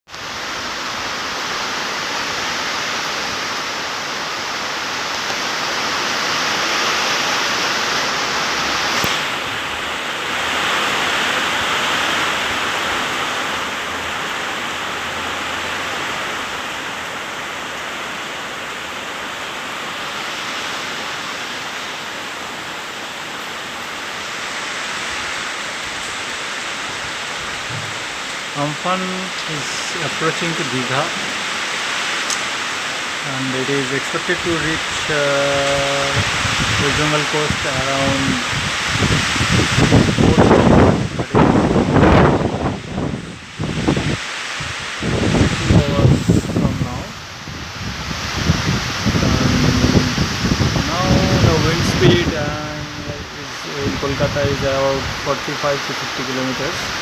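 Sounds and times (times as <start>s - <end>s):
gusting wind: 0.1s - 57.0s
heavy rain: 0.1s - 57.0s.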